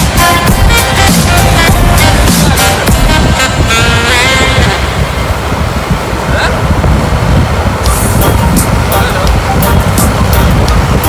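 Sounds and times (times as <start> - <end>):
music playing: 0.0 - 6.4, 7.1 - 11.0
truck engines and traffic rumble: 0.0 - 11.0.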